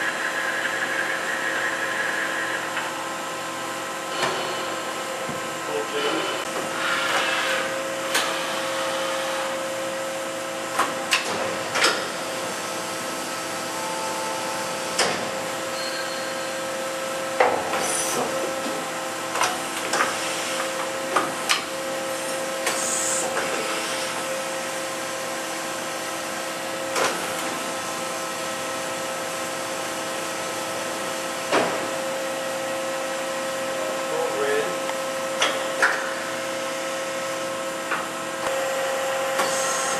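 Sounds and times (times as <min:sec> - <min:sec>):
machining center humming: 0:00.0 - 0:39.9.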